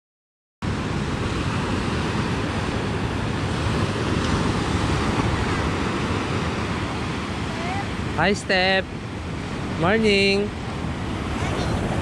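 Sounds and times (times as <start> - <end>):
sea surf washing on shore: 0.6 - 12.0
wind buffeting microphone: 0.6 - 12.0.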